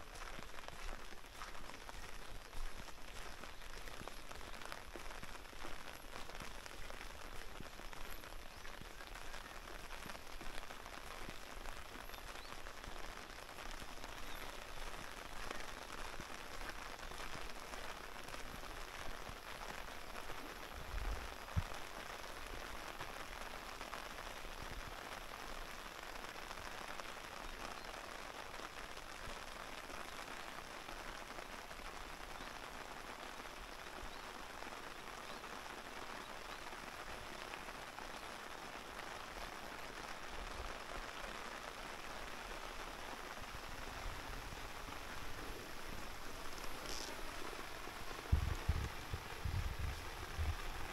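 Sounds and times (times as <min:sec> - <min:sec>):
rain falling on water: 0:00.0 - 0:50.9.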